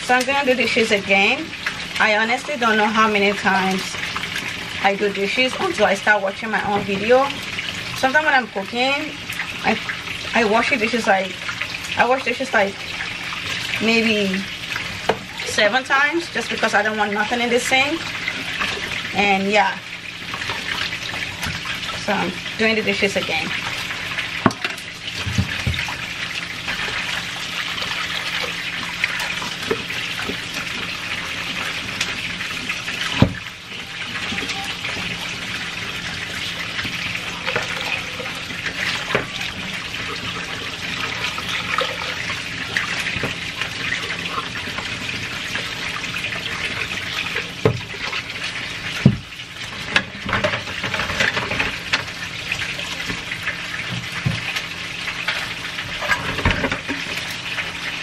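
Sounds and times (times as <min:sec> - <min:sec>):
water splashing over dishes: 0:00.0 - 0:58.0.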